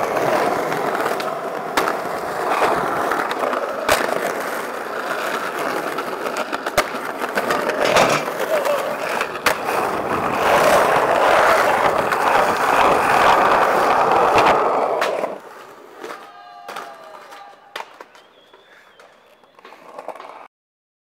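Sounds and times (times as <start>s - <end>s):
skateboard wheels rolling on pavement: 0.0s - 20.5s.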